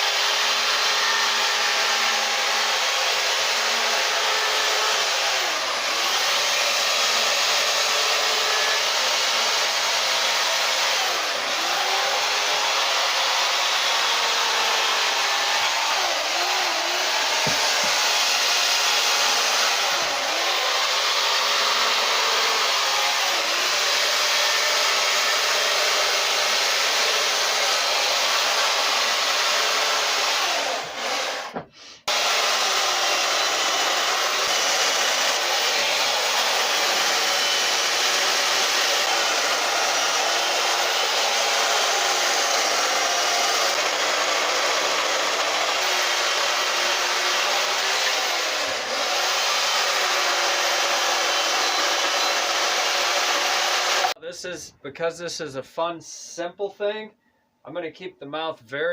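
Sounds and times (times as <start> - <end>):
chainsaw cutting wood: 0.0 - 54.2.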